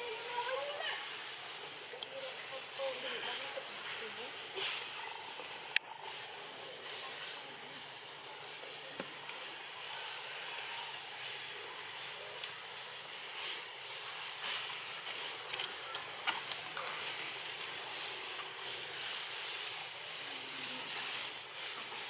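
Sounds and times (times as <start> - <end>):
high-pitched outdoor hiss: 0.0 - 22.0.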